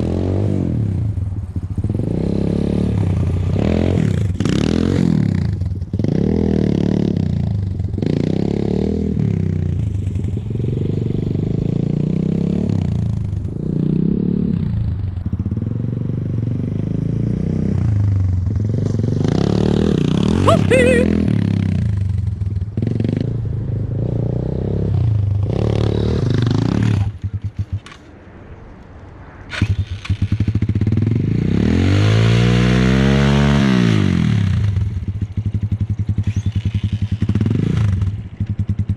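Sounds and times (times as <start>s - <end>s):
motorcycle engine revving: 0.0s - 28.1s, 29.5s - 38.9s.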